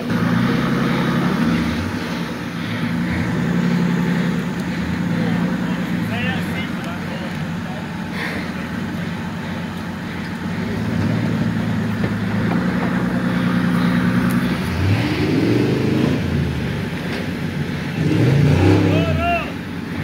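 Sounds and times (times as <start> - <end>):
engine revving under load: 0.0 - 20.0.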